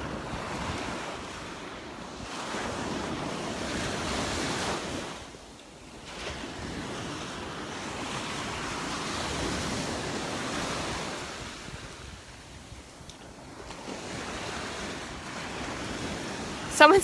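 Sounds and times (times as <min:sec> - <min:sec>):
wind buffeting microphone: 0:00.0 - 0:05.4, 0:06.1 - 0:17.0
waves breaking on shore: 0:00.0 - 0:17.0.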